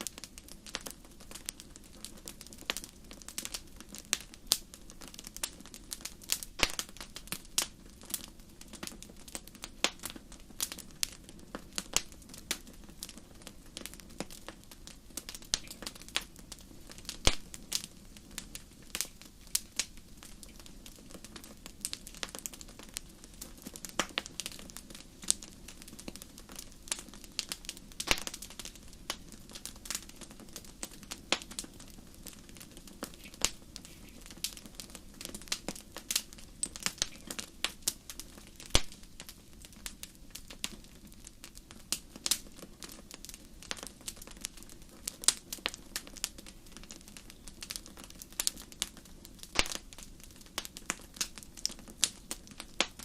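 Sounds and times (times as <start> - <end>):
campfire crackling and popping: 0.0 - 53.0
low steady hiss: 0.0 - 53.0.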